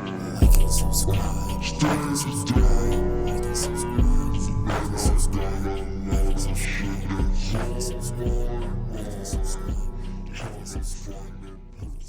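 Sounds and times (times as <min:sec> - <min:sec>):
music with deep bass hits: 0:00.0 - 0:12.0.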